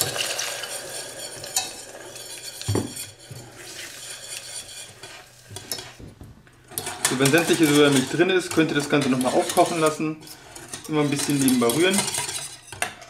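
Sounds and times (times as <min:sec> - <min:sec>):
utensil scraping a saucepan: 0:00.0 - 0:06.0, 0:06.6 - 0:13.0.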